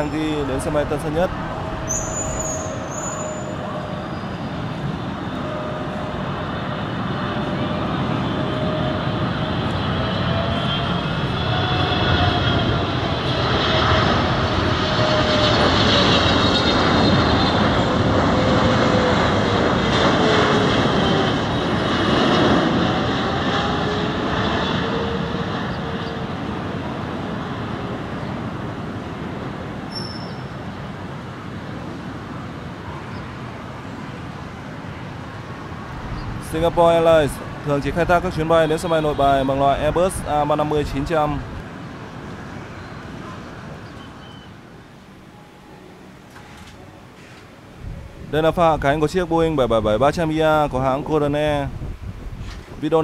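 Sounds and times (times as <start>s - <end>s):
airliner jet engines passing: 0.0s - 53.0s.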